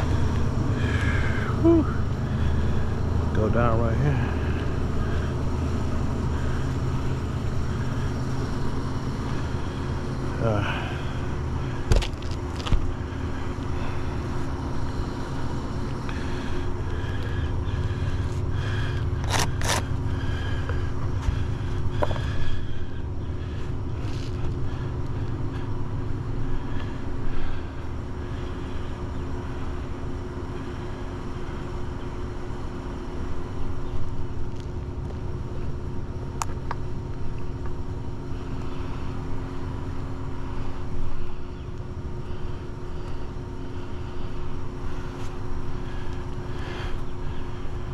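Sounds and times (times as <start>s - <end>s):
low rumble and hum: 0.0s - 47.9s.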